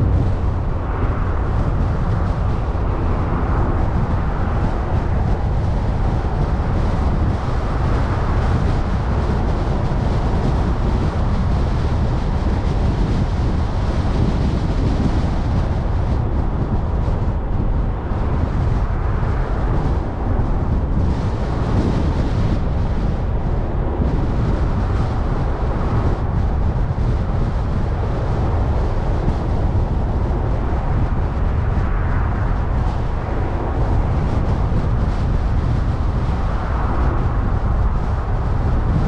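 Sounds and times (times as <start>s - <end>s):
rushing wind: 0.0s - 39.0s.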